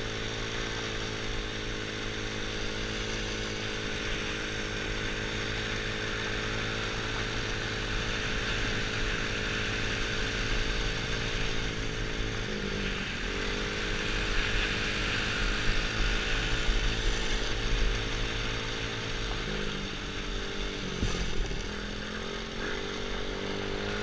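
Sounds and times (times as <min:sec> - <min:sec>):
quad engine running: 0:00.0 - 0:24.0.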